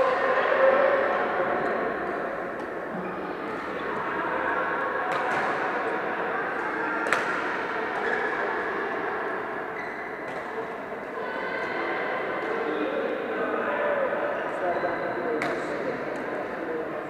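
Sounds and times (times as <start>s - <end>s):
sports hall hubbub: 0.0s - 17.0s.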